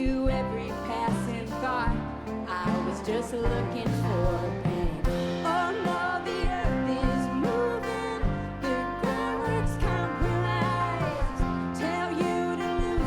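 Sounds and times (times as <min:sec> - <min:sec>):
indie rock band playing: 0:00.0 - 0:13.0
person singing: 0:00.0 - 0:13.0.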